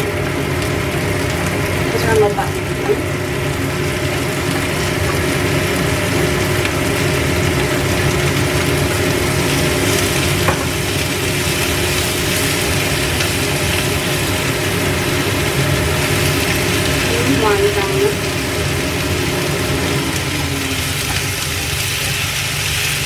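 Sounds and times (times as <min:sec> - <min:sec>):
radish sizzling in a frying pan: 0:00.0 - 0:23.0
steady mechanical hum: 0:00.0 - 0:23.0.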